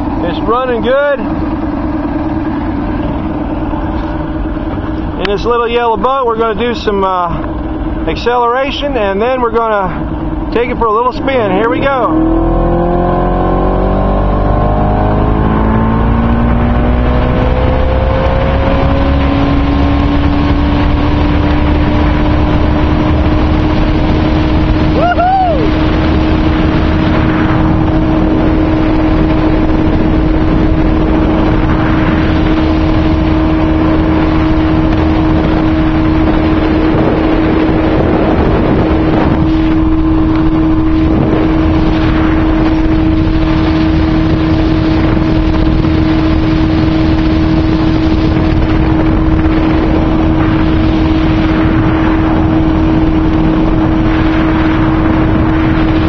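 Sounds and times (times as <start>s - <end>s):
speedboat motor running: 0.0s - 56.0s
wind noise on microphone: 0.0s - 56.0s.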